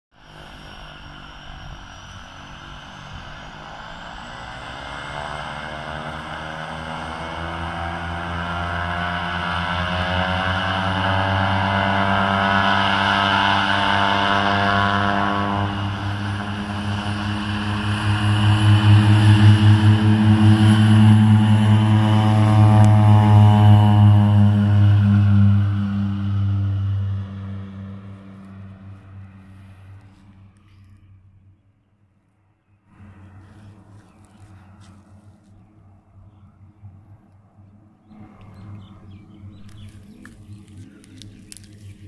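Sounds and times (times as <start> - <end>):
high turbine whine: 0.1 - 31.6, 32.9 - 42.0
propeller drone: 0.1 - 42.0.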